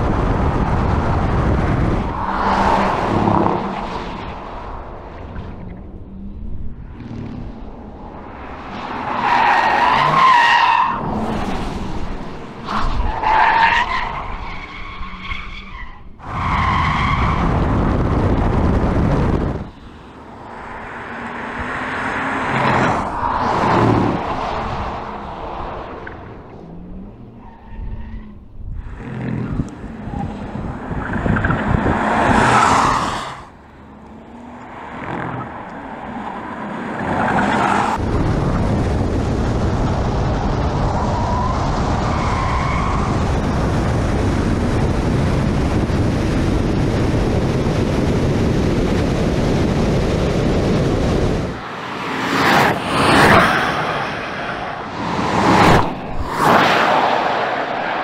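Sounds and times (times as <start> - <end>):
tyre and road noise: 0.0 - 58.0.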